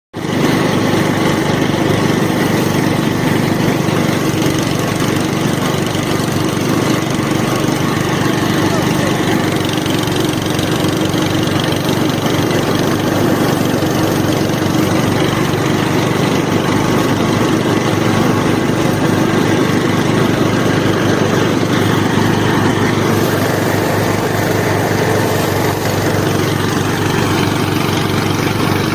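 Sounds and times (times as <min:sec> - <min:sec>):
small engine running steadily: 0:00.1 - 0:28.9.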